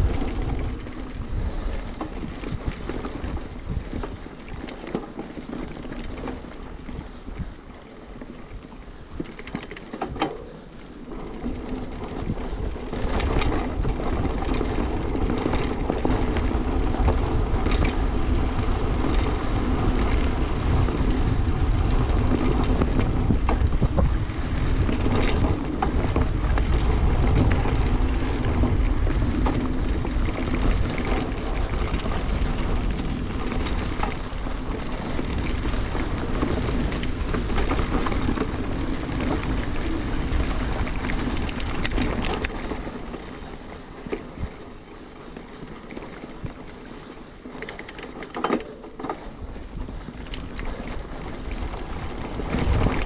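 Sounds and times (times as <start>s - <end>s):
bike rattling: 0.0s - 53.0s
bike tyres on dirt trail: 0.0s - 53.0s
wind rumble on microphone: 0.0s - 53.0s.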